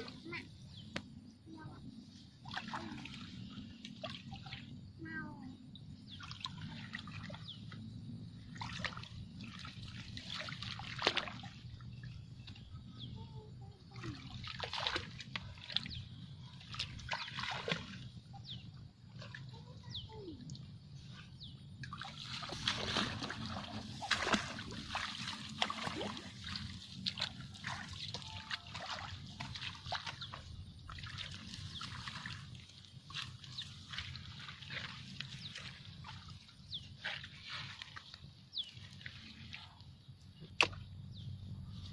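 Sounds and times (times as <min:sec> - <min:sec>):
birds chirping: 0:00.0 - 0:10.0, 0:11.3 - 0:41.9.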